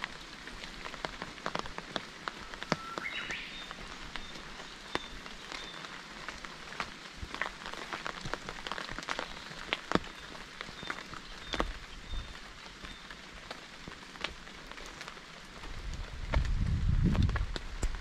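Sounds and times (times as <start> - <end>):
rain patter: 0.0 - 18.0.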